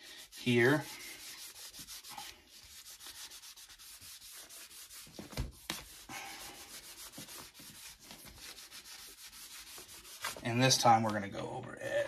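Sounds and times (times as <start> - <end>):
cotton scratching on paper: 0.0 - 10.5.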